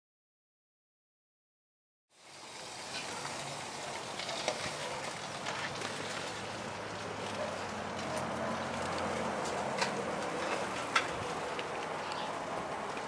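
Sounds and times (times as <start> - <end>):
steady outdoor hiss: 2.1 - 13.0.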